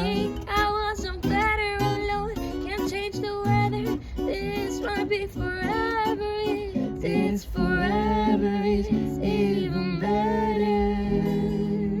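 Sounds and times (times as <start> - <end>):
instrumental backing: 0.0 - 12.0
woman singing pop melody: 0.0 - 12.0.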